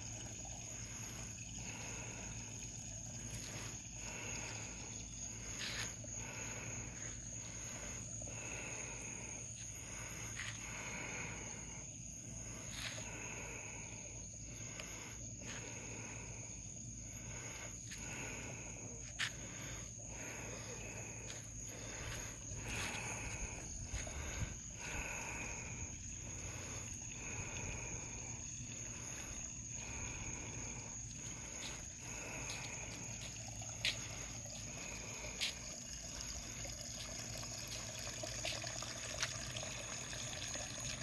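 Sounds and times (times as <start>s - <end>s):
insect chirping: 0.0s - 41.0s
insect trill: 0.0s - 41.0s.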